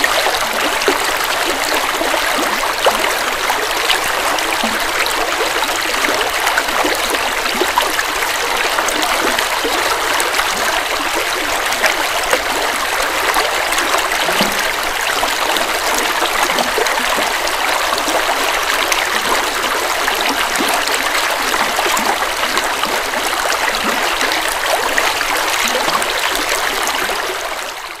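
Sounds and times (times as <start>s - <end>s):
river flowing over rocks: 0.0s - 28.0s.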